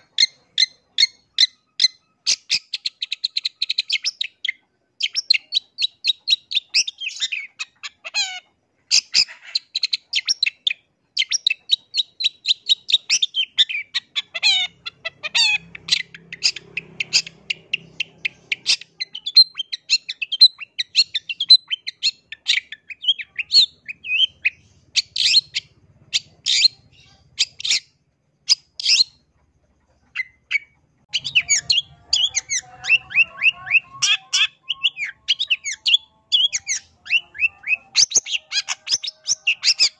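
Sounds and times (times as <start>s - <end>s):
shrike chattering song: 0.0s - 39.9s.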